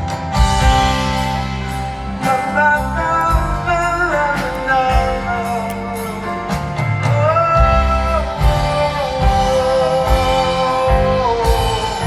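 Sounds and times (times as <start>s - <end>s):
bass: 0.0s - 12.0s
guitar: 0.0s - 12.0s
steady drum beat: 0.0s - 12.0s
wordless sung melody: 0.0s - 12.0s.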